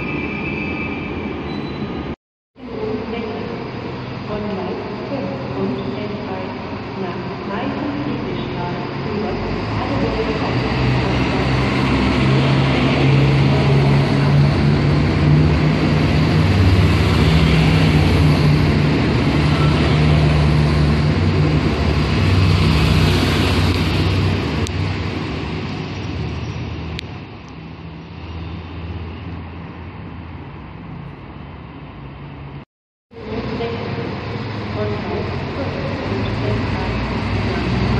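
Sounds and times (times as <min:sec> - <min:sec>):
diesel train engine droning: 0:00.0 - 0:37.9
wheel and rail noise: 0:00.0 - 0:37.9.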